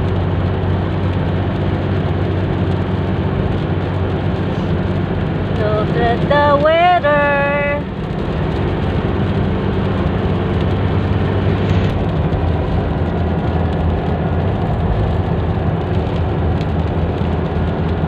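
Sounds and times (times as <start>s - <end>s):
engine and road drone: 0.0s - 18.0s
rain hissing on vehicle: 0.0s - 18.0s.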